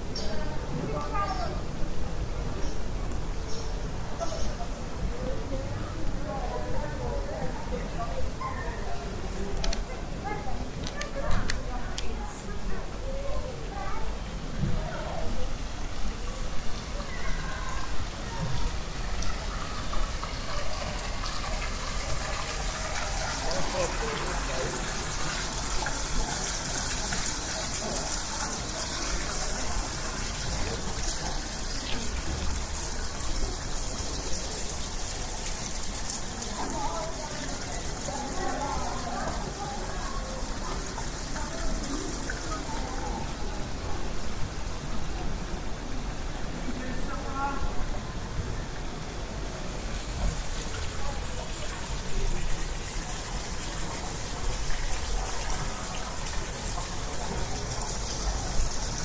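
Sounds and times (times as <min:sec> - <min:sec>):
fountain water gushing: 0:00.0 - 0:59.0.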